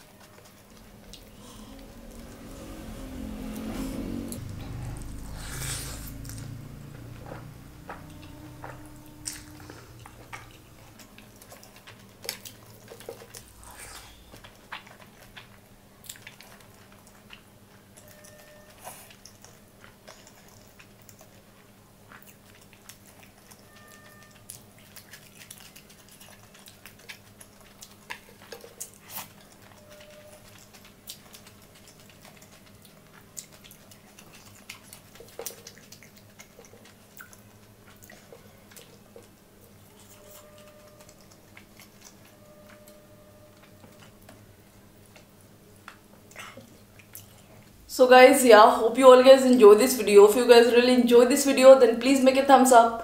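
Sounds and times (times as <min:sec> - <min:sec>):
chewing with wet mouth clicks: 0:00.0 - 0:02.4, 0:06.0 - 0:47.7.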